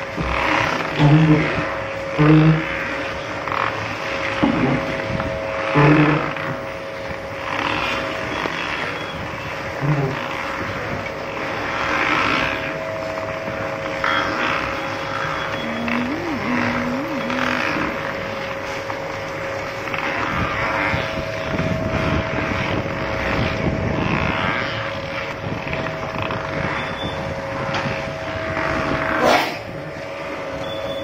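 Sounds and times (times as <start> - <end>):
motor hum: 0.0 - 31.0.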